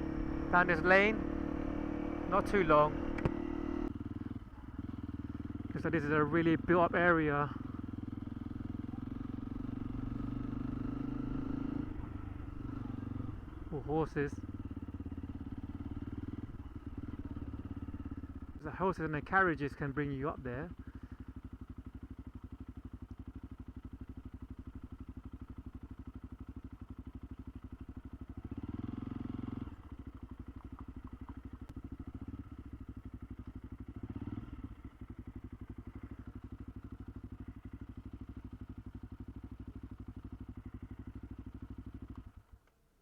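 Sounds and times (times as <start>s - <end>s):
motorbike engine running: 0.0s - 42.6s.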